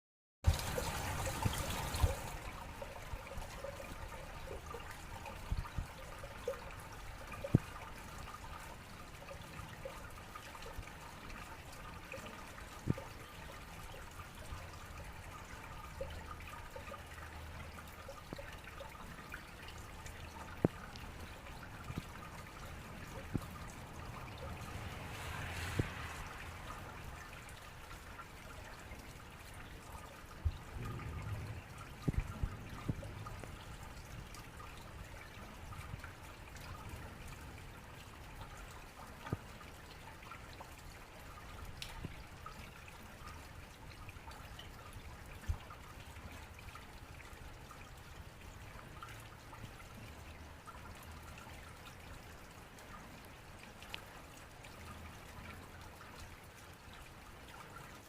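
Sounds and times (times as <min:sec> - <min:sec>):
water dripping: 0:00.4 - 0:58.0
water running down drainpipe: 0:00.4 - 0:58.0.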